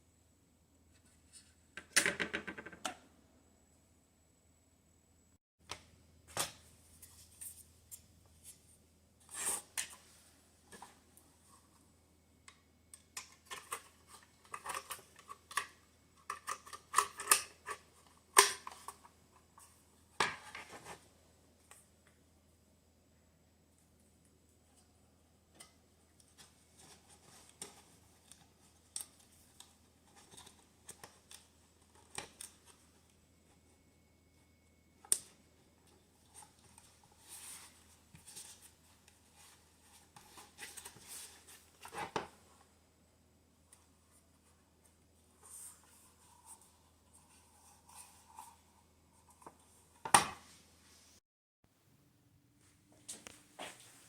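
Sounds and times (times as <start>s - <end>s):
faint low hum: 2.5s - 50.0s.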